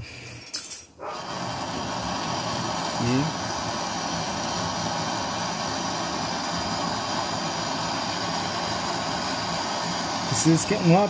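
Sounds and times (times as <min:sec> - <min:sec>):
torch flame hissing: 0:01.0 - 0:11.0.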